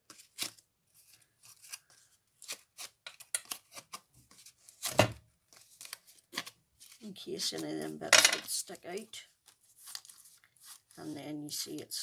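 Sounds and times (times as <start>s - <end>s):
paper rustling and crackling: 0.0s - 12.0s.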